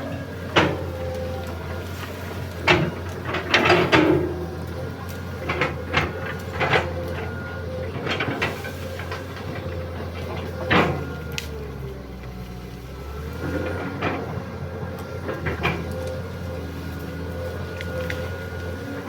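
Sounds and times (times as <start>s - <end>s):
sharp knocks and creaks: 0.0s - 11.6s, 13.3s - 19.0s
excavator engine running: 0.0s - 19.0s.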